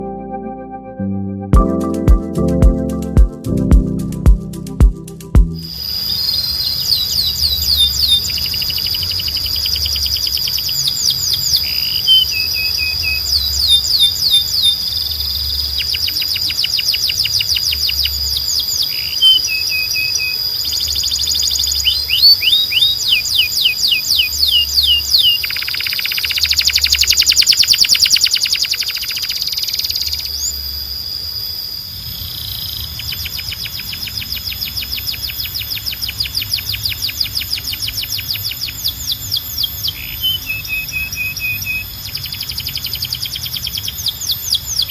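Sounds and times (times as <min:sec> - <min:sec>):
canary singing trills: 0:01.9 - 0:44.9.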